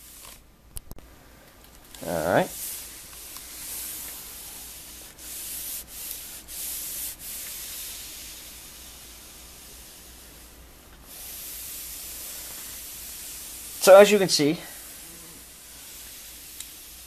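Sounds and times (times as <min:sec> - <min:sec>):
iron sliding over shirt: 0:02.0 - 0:17.0.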